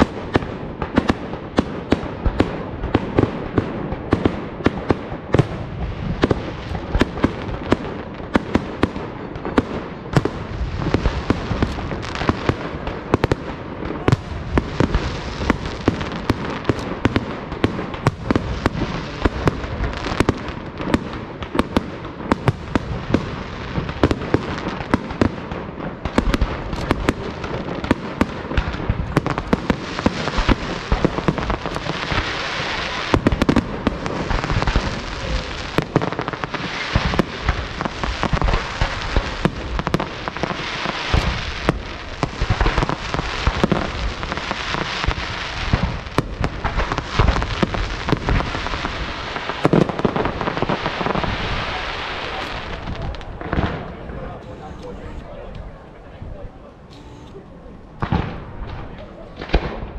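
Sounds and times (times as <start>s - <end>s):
fireworks bangs and crackle: 0.0s - 59.9s.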